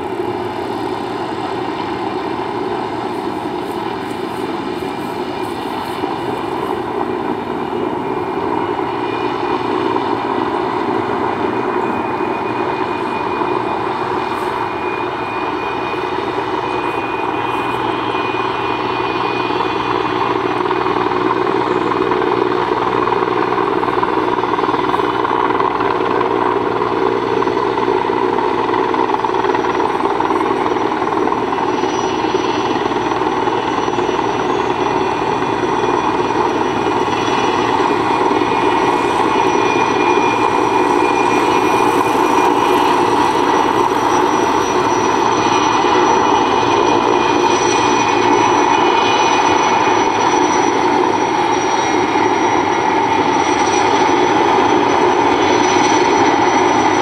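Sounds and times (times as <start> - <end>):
helicopter rotor and turbine drone: 0.0 - 57.0.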